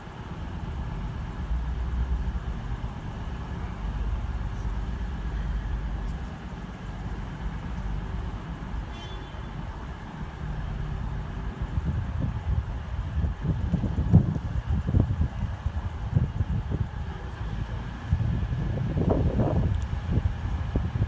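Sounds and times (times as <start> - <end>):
diesel train engines idling: 0.0 - 21.0.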